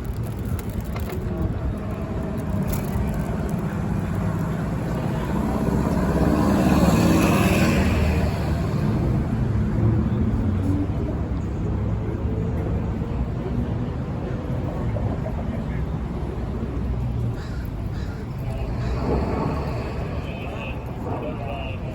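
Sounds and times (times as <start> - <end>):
motor vehicle passing: 0.0 - 11.3, 12.0 - 21.9.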